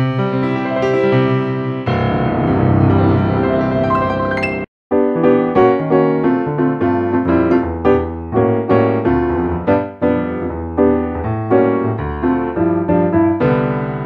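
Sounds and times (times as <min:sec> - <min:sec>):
piano melody with chords: 0:00.0 - 0:14.0.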